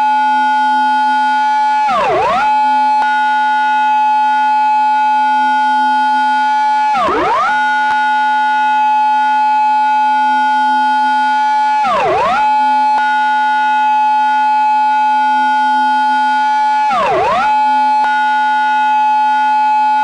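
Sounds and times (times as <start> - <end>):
police car siren wailing: 0.0 - 20.0.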